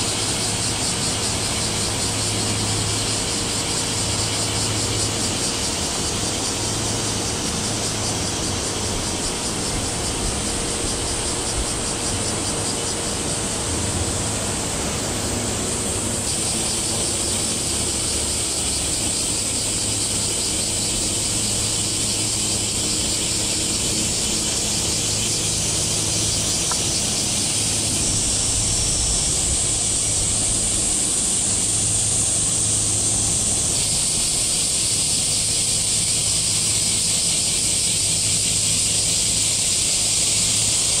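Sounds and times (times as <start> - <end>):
cicadas buzzing: 0.0 - 41.0
vehicle drone: 0.0 - 41.0.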